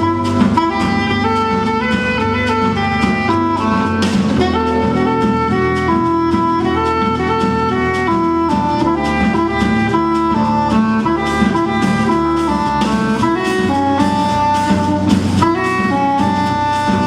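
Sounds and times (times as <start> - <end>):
jazz band playing: 0.0 - 17.0
saxophone melody: 0.0 - 17.0.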